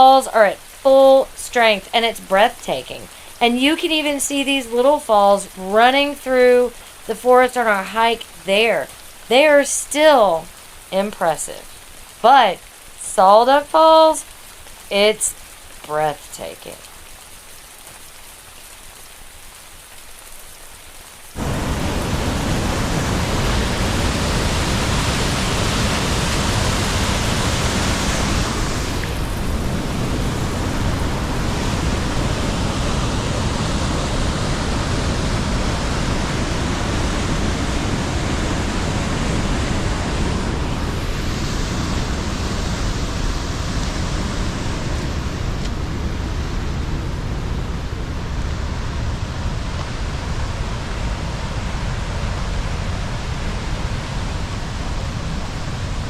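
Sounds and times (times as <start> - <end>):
faint steady hiss: 0.0 - 56.0
waterfall roaring: 0.0 - 56.0.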